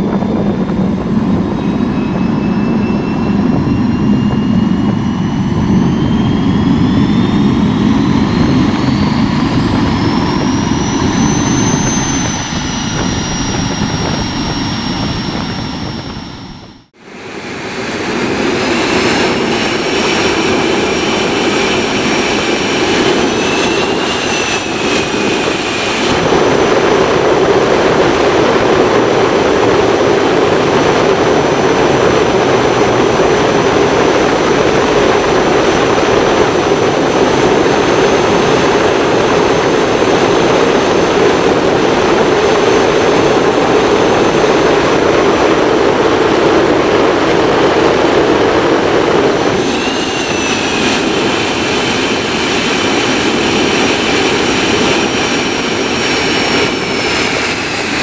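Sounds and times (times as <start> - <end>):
high-pitched turbine whine: 0.0 - 58.0
jet engine roar: 0.0 - 58.0.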